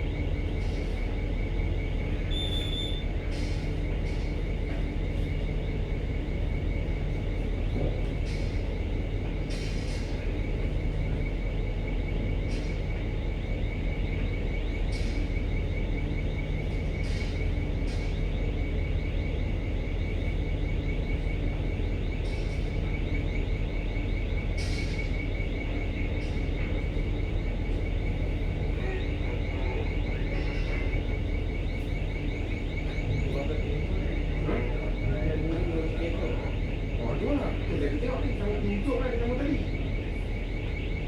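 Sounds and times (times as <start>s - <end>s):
ship engine drone: 0.0s - 41.0s.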